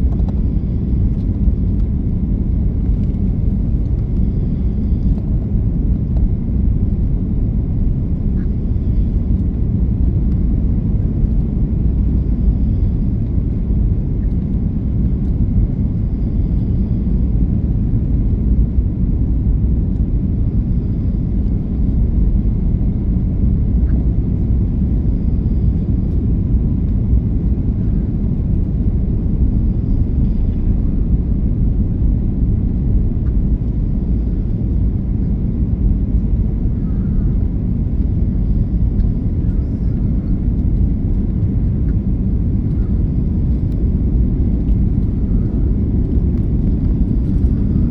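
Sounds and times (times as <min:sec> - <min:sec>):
airflow over fuselage: 0:00.0 - 0:47.9
airliner engines rumbling: 0:00.0 - 0:47.9.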